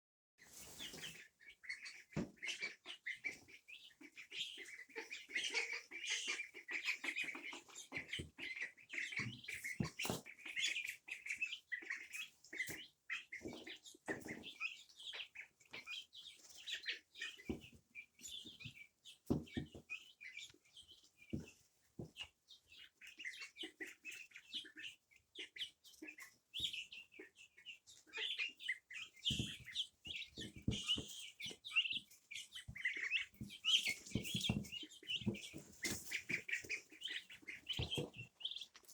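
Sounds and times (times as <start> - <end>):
birds chirping: 0.4 - 38.9.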